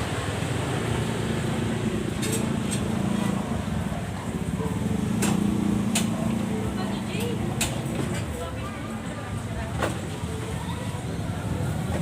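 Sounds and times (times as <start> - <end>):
indistinct voices of a gathering: 0.0 - 12.0.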